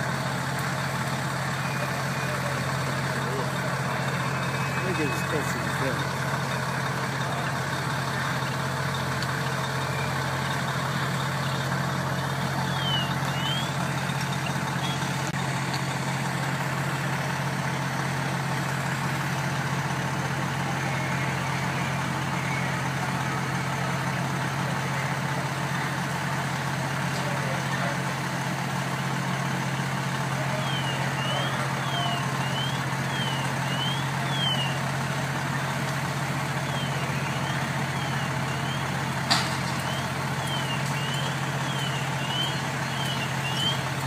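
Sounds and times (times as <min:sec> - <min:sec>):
fire truck engines idling: 0:00.0 - 0:44.0.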